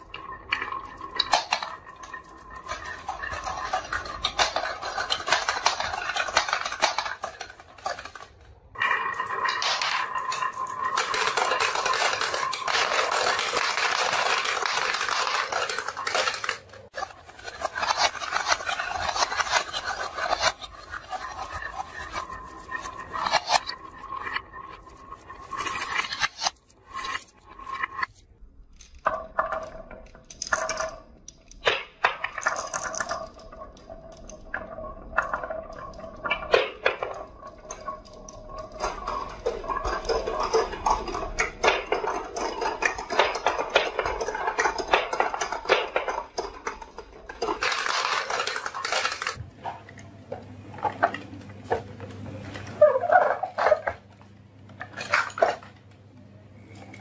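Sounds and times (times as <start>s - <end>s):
glass marbles clattering on wood: 0.0s - 28.2s, 28.8s - 49.4s.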